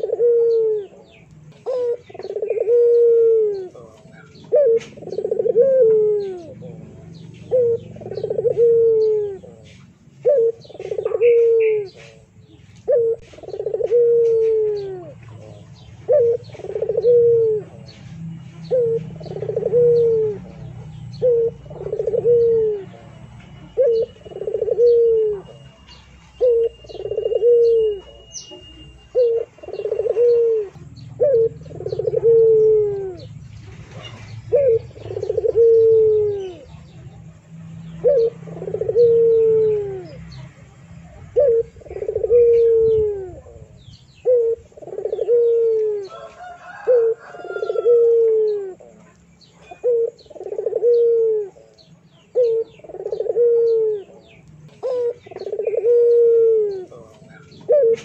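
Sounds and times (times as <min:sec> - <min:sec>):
bird cooing: 0:00.0 - 0:58.0.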